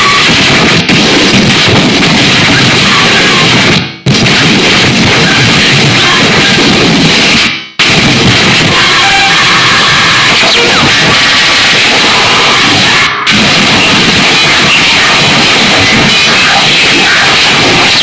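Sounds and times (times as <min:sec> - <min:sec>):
distorted electronic noise music: 0:00.0 - 0:18.0.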